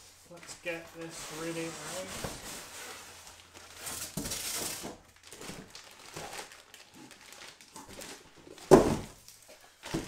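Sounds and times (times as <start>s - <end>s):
plastic wrap crinkling: 0.2s - 10.0s.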